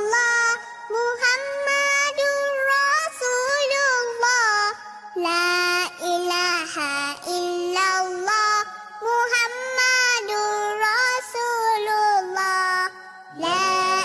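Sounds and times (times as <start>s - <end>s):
high voice singing slowly: 0.0s - 14.0s.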